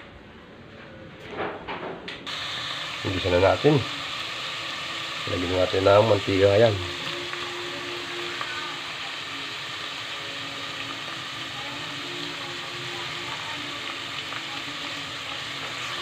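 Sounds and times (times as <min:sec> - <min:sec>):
meat sizzling in hot oil: 0:02.3 - 0:16.0.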